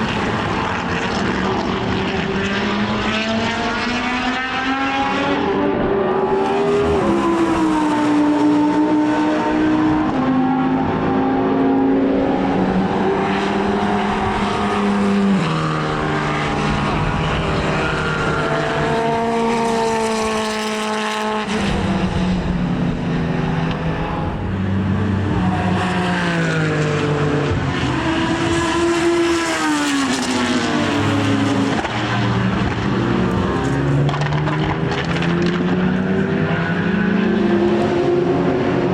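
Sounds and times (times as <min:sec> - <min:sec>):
racing car engines shifting gears: 0:00.0 - 0:38.9.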